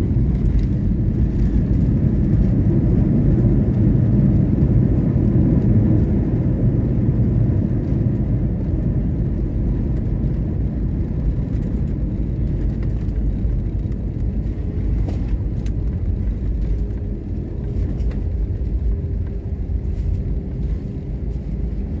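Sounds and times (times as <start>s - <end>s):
airliner engine rumble: 0.0s - 22.0s.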